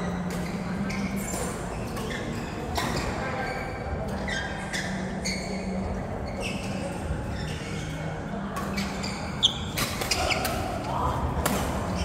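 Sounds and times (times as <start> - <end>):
sports shoes squeaking on court: 0.0 - 10.8
low hum in large hall: 0.0 - 12.0.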